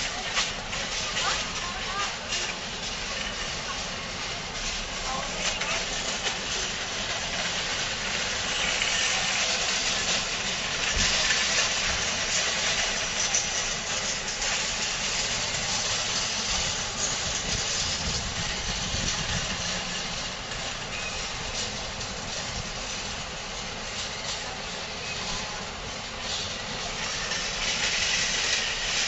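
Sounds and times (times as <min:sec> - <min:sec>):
even hiss of open air: 0:00.0 - 0:29.0
low traffic rumble: 0:00.0 - 0:29.0.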